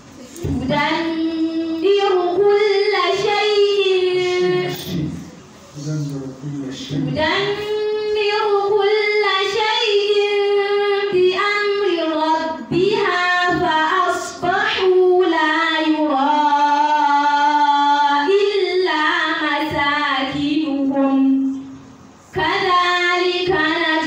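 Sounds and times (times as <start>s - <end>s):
woman chanting: 0.2s - 5.2s, 7.1s - 21.7s, 22.3s - 24.0s.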